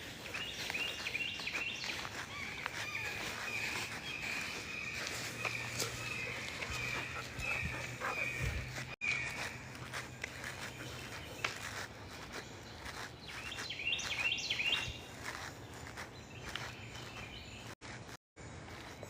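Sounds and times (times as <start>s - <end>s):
bird singing: 0.0s - 17.8s
footsteps outdoors: 0.0s - 19.0s.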